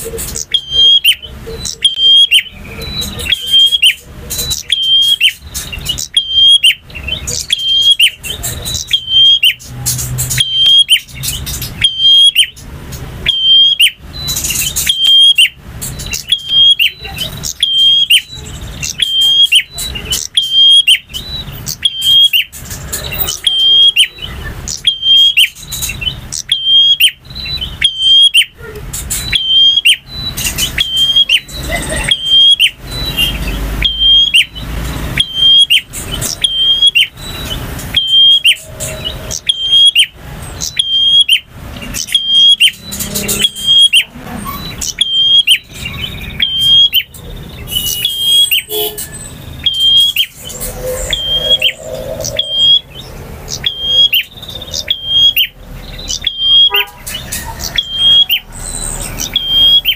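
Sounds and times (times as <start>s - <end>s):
bird singing whistled notes: 0.0s - 59.9s.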